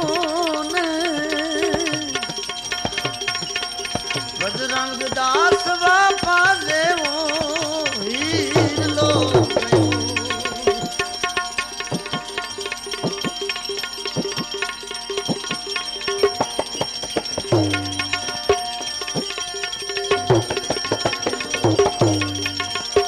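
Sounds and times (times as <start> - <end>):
ornamented sliding melody: 0.0 - 23.0
tabla strokes: 0.0 - 23.0.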